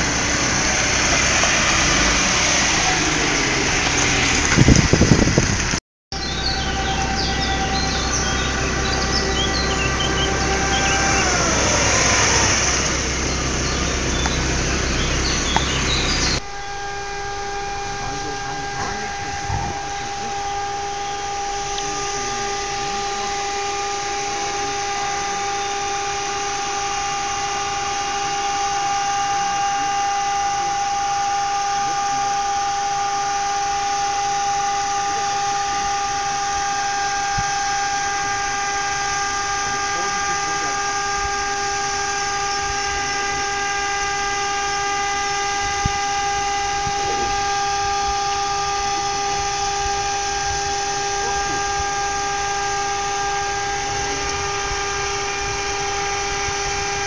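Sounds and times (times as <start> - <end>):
vehicle engine whining in low gear: 0.0 - 57.0.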